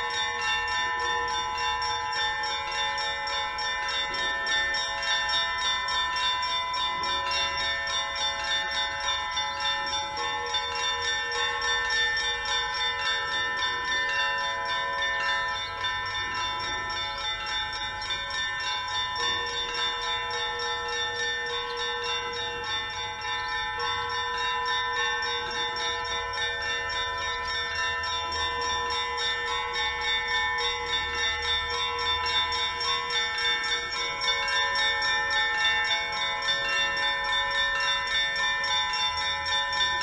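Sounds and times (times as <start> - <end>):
church bells pealing: 0.0 - 40.0.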